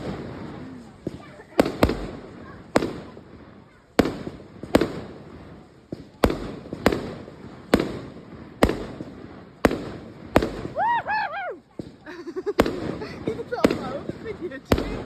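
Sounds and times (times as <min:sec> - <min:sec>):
fireworks bangs with echo: 0:00.0 - 0:15.0.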